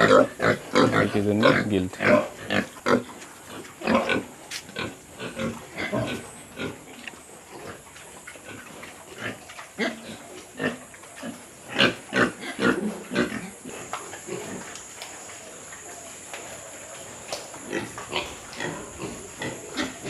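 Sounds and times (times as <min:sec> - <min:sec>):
pigs grunting and oinking: 0:00.0 - 0:20.0.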